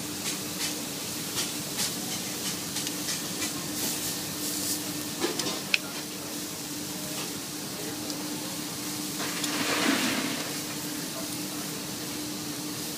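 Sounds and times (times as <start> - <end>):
steaks sizzling on grill: 0.1 - 12.9.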